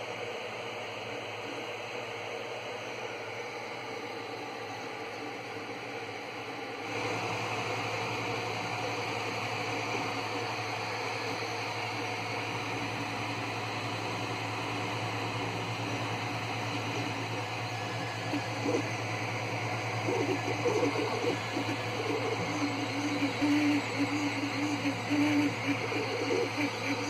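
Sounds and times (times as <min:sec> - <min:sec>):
cooling fans whirring: 0:00.0 - 0:27.0.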